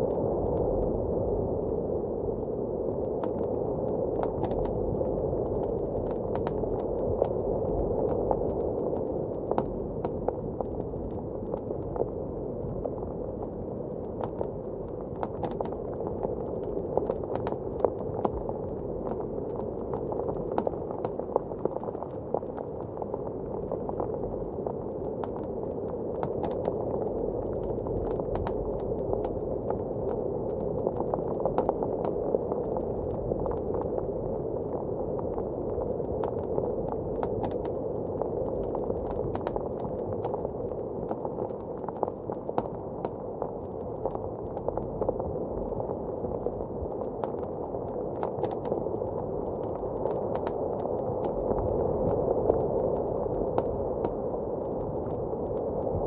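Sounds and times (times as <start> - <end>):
muffled blizzard wind: 0.0 - 56.0.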